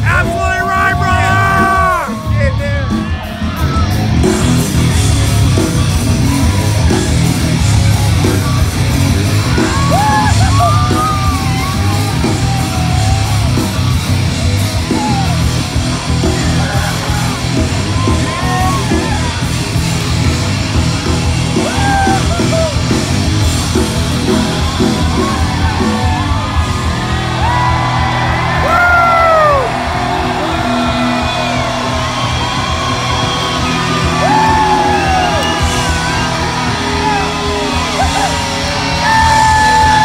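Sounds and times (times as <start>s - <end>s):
crowd yelling and whooping: 0.0s - 40.0s
live rock band playing loudly: 0.0s - 40.0s.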